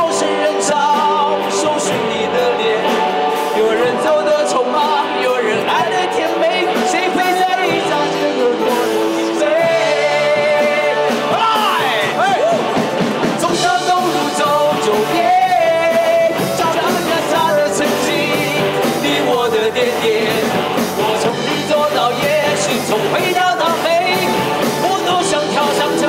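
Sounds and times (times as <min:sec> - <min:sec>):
acoustic guitars and band: 0:00.0 - 0:26.0
men singing rock song: 0:00.0 - 0:26.0.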